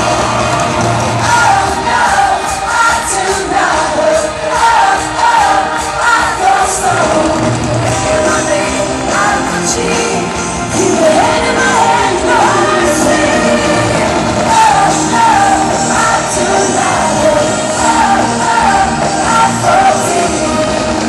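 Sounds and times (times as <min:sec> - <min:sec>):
drums: 0:00.0 - 0:21.0
electric guitar: 0:00.0 - 0:21.0
woman singing: 0:01.2 - 0:21.0.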